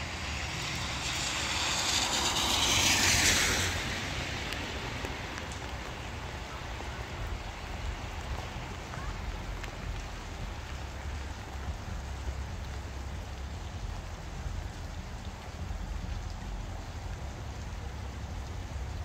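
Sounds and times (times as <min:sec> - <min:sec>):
car tyres hissing on wet street: 0:00.0 - 0:19.0
light rain pattering: 0:00.0 - 0:19.0.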